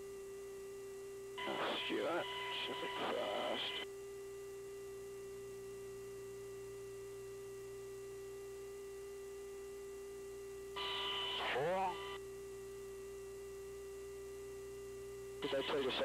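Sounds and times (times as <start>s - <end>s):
intercom electrical hum: 0.0s - 16.0s.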